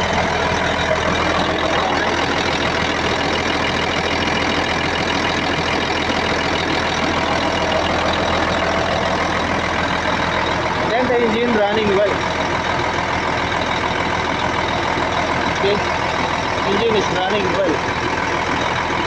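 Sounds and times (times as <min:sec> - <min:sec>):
loader diesel engine running: 0:00.0 - 0:19.0.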